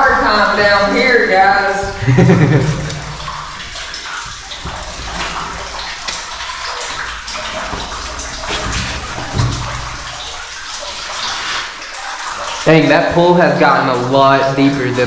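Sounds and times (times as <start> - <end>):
water splashing into pool: 0.0 - 15.0.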